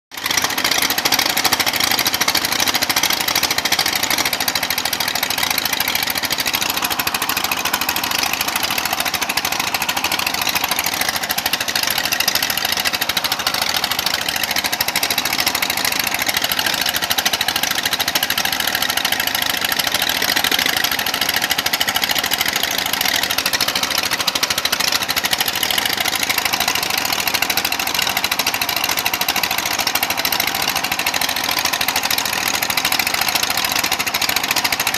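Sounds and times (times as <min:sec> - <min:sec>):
dredge engine knocking: 0:00.1 - 0:34.9.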